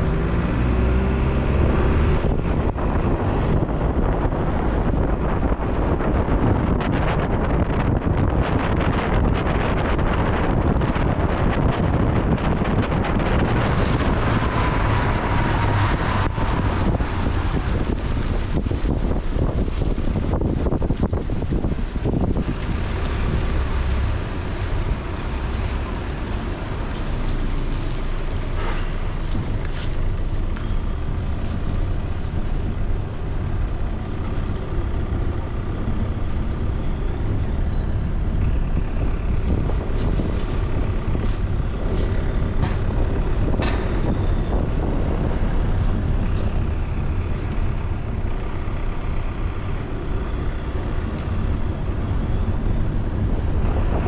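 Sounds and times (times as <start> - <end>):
car road and engine rumble: 0.0 - 54.0
wind noise: 0.0 - 54.0.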